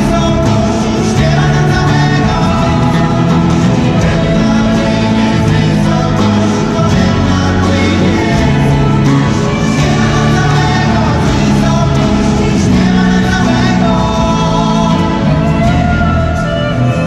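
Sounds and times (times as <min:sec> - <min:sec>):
group singing a carol: 0:00.0 - 0:16.5
bass guitar: 0:00.0 - 0:17.0
electric guitar: 0:00.0 - 0:17.0.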